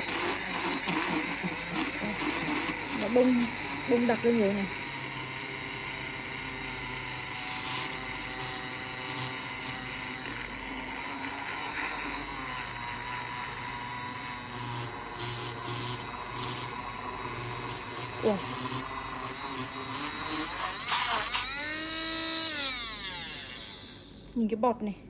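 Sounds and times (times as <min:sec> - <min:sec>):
handheld frother motor whine: 0:00.0 - 0:24.4.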